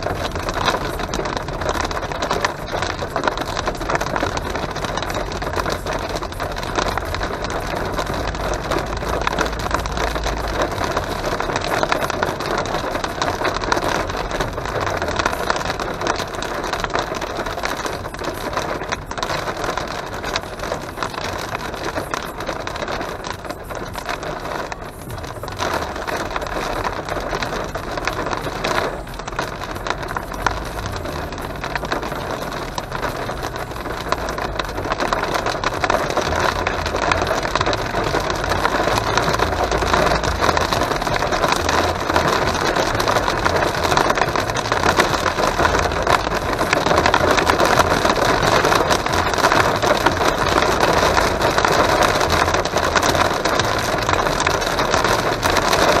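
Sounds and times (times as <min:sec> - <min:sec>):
car driving rumble: 0:00.0 - 0:56.0
rain and hail drumming on car roof: 0:00.0 - 0:56.0.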